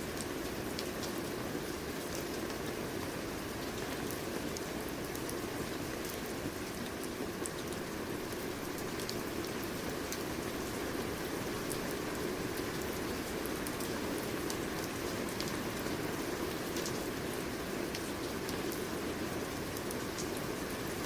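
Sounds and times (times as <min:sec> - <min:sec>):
raindrops ticking on surface: 0:00.0 - 0:21.0
steady rain hiss: 0:00.0 - 0:21.0.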